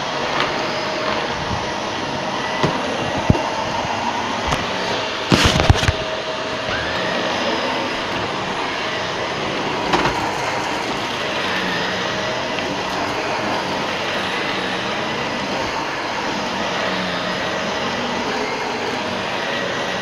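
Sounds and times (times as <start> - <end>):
vacuum cleaner running over carpet: 0.0 - 20.0.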